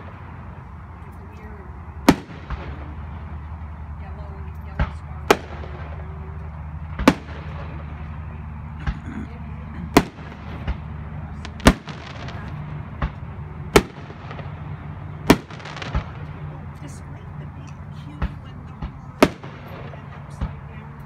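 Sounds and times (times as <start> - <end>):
fireworks bursting bangs: 1.9 - 21.0.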